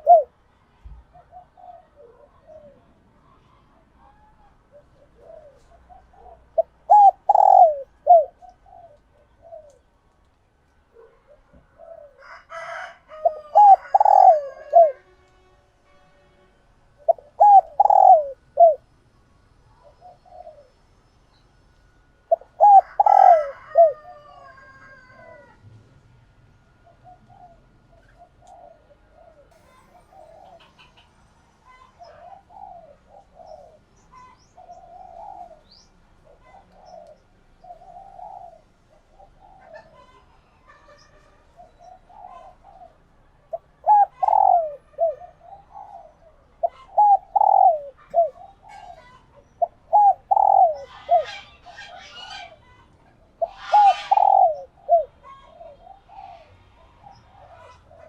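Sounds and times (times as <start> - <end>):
dove cooing: 0.0 - 3.0, 4.0 - 9.9, 10.9 - 15.0, 17.0 - 18.9, 19.7 - 20.8, 22.3 - 25.6, 26.8 - 58.0.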